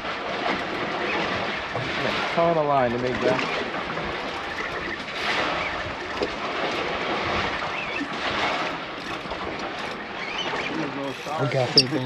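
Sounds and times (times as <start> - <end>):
wind and sea rushing: 0.0 - 12.0.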